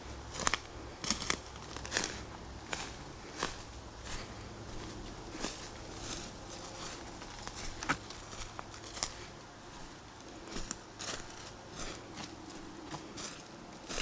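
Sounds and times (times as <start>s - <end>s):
crunching footsteps: 0.0s - 14.0s.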